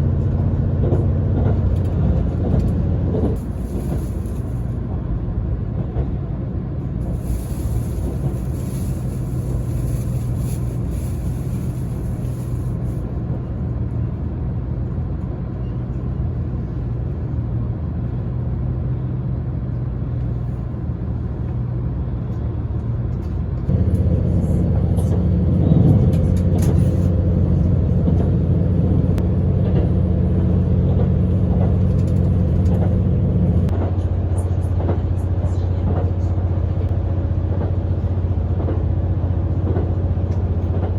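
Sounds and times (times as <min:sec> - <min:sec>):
low train engine hum: 0:00.0 - 0:40.9
train running gear rumbling on rails: 0:00.0 - 0:40.9.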